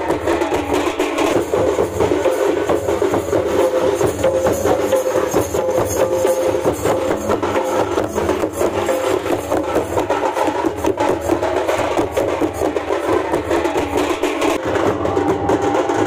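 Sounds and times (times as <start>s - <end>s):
rapid hand drumming: 0.0s - 16.0s.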